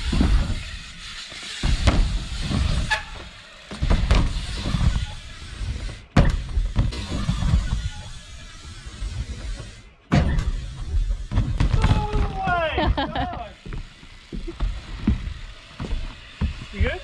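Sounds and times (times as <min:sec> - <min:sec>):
bike tyres rumbling on ramps: 0:00.0 - 0:17.0.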